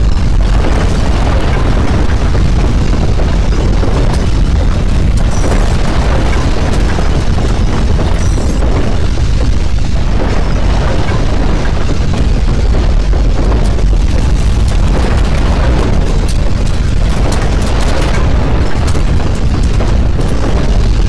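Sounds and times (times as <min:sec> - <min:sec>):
earthquake deep rumble: 0:00.0 - 0:21.0.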